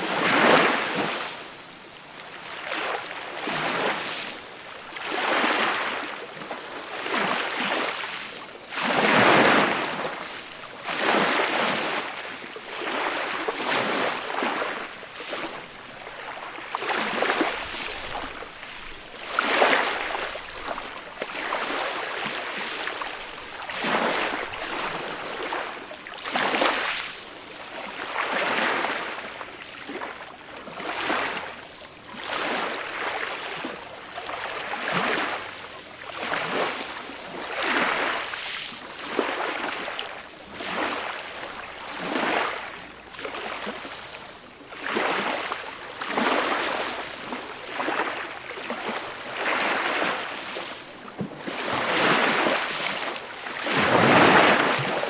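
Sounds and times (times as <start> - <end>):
gentle waves washing up a beach: 0.0 - 55.0.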